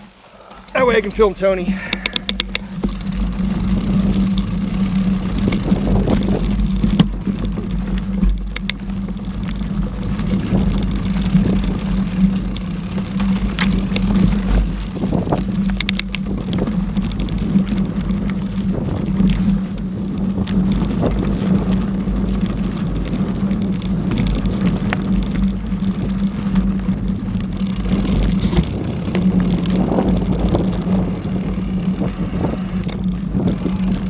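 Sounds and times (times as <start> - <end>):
bike rattling and clicking: 0.0 - 34.0
wind and tyre noise: 0.0 - 34.0.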